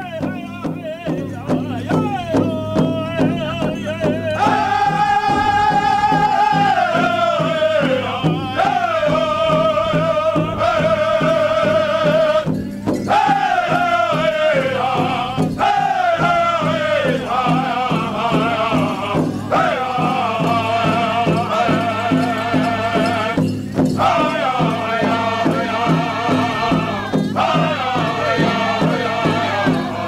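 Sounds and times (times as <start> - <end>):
group singing in unison: 0.0 - 30.0
steady drumbeat: 0.0 - 30.0.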